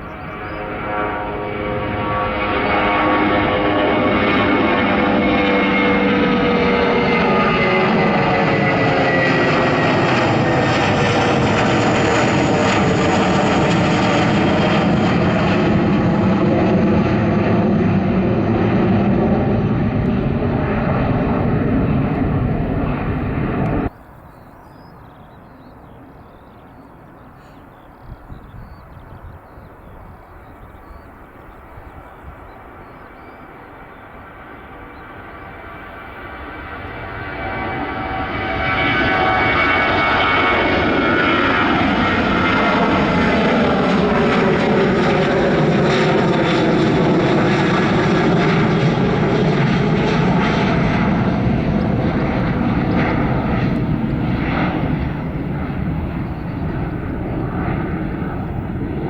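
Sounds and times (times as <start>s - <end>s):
jet airliner passing by: 0.0s - 59.0s.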